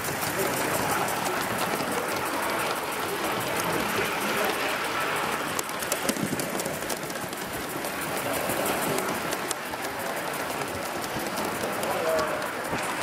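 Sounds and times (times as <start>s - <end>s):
model steam locomotive hissing: 0.0s - 13.0s
wheels ticking on track: 0.0s - 13.0s.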